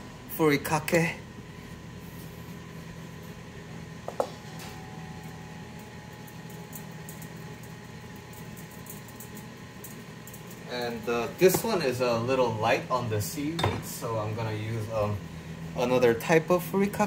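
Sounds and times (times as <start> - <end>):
low kitchen hum: 0.0 - 17.0.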